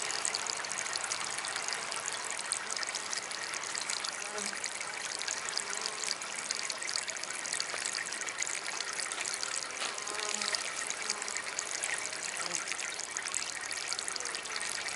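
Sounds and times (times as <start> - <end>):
fountain water trickling: 0.0 - 14.9.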